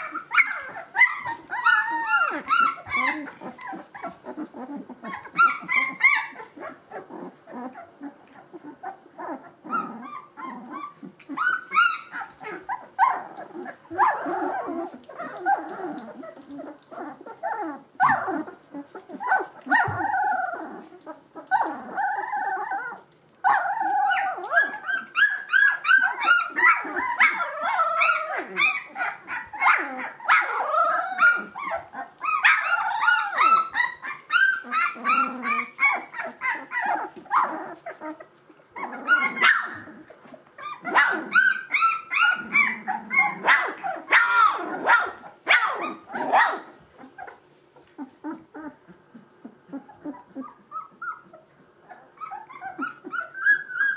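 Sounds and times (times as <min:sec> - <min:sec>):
puppies whining and squealing: 0:00.0 - 0:53.9.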